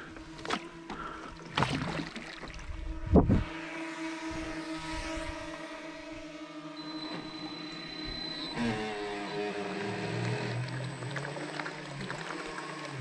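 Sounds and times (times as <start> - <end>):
electric motors surging: 0.0 - 13.0
steady electric hum: 0.0 - 13.0.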